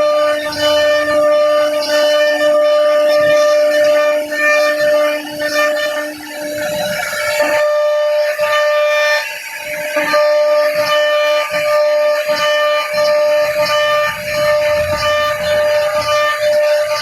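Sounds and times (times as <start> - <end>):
cutter bit rumbling in wood: 0.0 - 17.0
router spindle whining: 0.0 - 17.0.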